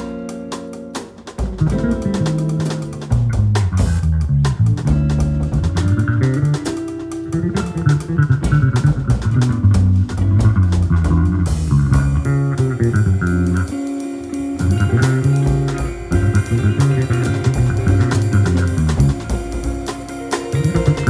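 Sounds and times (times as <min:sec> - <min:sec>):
drum kit: 0:00.0 - 0:21.0
guitar: 0:00.0 - 0:21.0
electric bass line: 0:01.4 - 0:21.0.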